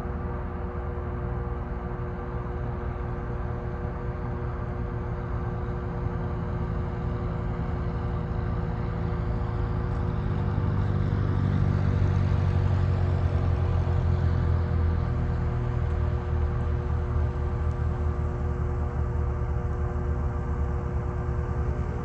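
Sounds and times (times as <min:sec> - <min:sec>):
low engine rumble: 0:00.0 - 0:22.0
steady droning tone: 0:00.0 - 0:22.0.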